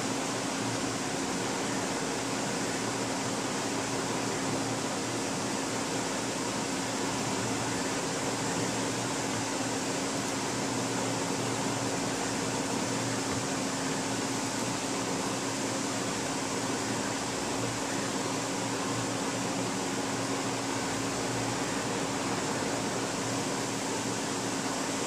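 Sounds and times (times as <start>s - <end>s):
computer cooling fans whirring: 0.0s - 25.0s.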